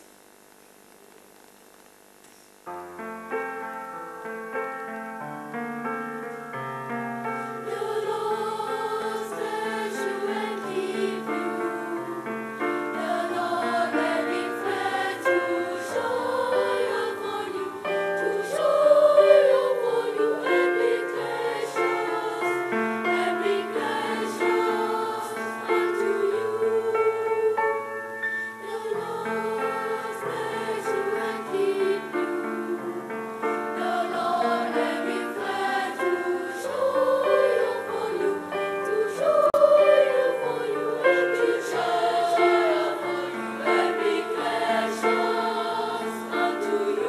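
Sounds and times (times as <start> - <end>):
keyboard accompaniment: 2.7 - 47.0
boys' choir singing: 7.6 - 27.8, 28.6 - 47.0.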